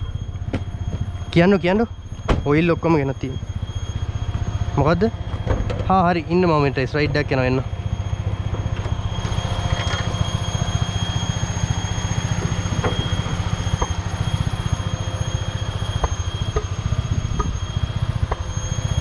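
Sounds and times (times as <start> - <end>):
car engine running: 0.0 - 19.0
high-pitched whine: 0.0 - 19.0.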